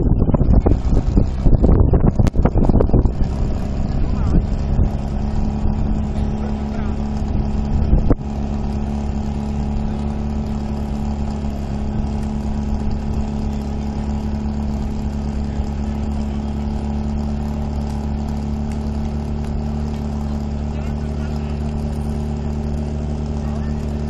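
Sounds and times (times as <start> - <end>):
pump engine running at high revs: 0.0 - 24.0.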